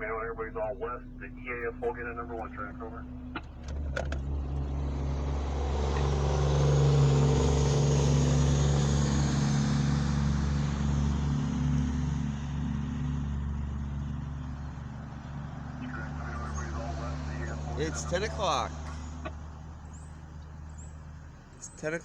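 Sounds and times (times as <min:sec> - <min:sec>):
vehicle driving past: 0:00.0 - 0:21.4
steady low hum: 0:00.0 - 0:21.6.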